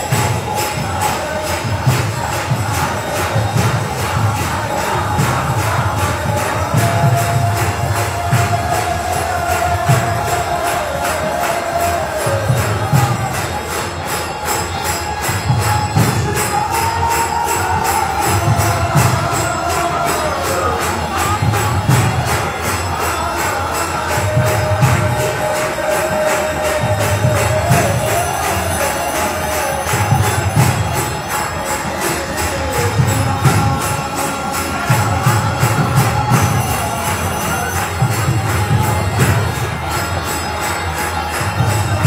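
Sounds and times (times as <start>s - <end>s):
hand cymbals clashing: 0.0s - 42.0s
voices chanting: 0.0s - 42.0s.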